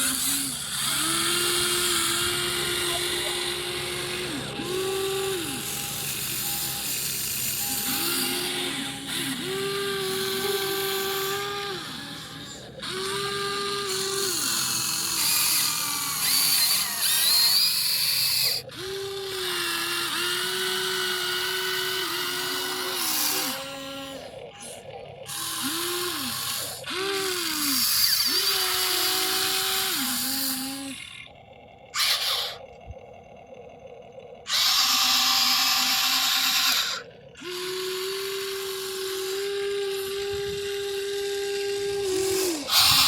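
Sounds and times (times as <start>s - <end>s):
toy gear motors whining: 0.0s - 43.0s.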